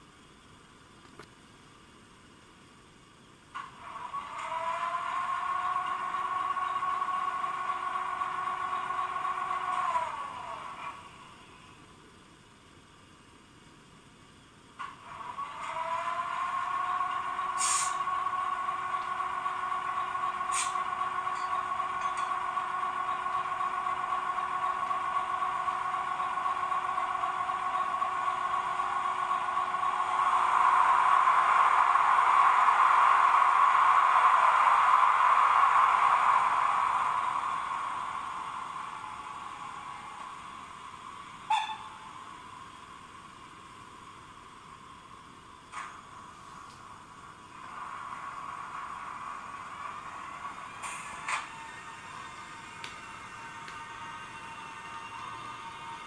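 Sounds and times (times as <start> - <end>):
electric locomotive hum from speaker: 0.0 - 56.0.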